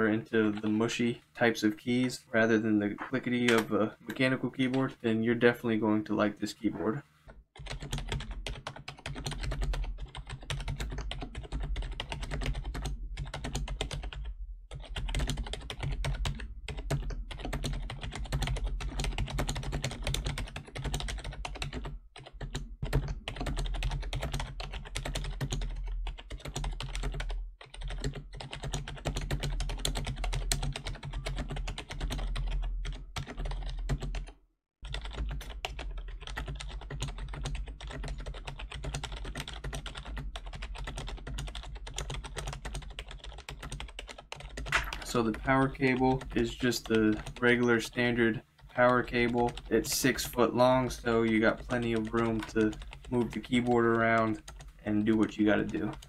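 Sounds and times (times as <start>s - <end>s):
typing on membrane keyboard: 7.6s - 48.0s, 48.6s - 56.0s.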